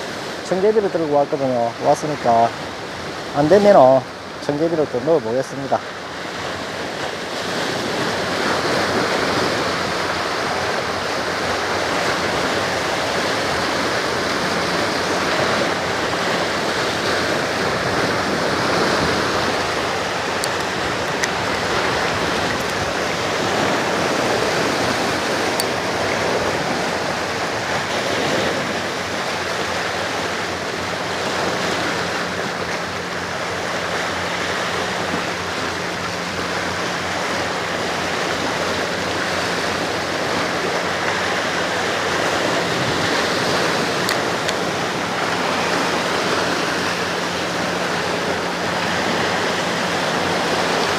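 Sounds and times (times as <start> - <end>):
sea water rushing against rocks: 0.0 - 50.9.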